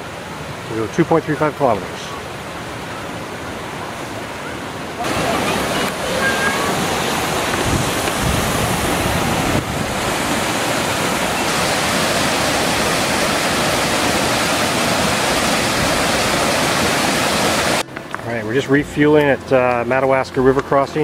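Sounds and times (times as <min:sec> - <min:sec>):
white water rushing over rocks: 0:00.0 - 0:18.5.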